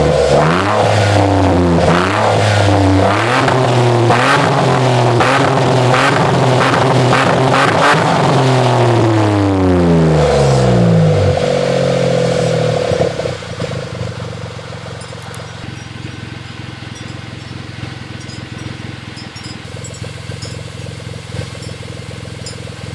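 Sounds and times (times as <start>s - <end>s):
car engine revs falling to idle: 0.0s - 22.9s.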